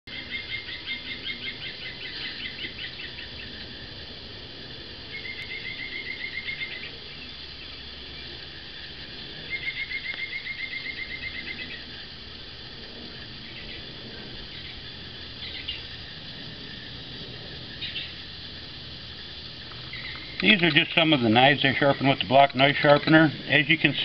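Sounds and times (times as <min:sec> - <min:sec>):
faint outdoor background: 0:00.0 - 0:24.0
songbird trilling: 0:00.1 - 0:03.8, 0:05.0 - 0:12.3, 0:13.2 - 0:16.1, 0:17.6 - 0:18.6, 0:19.2 - 0:24.0.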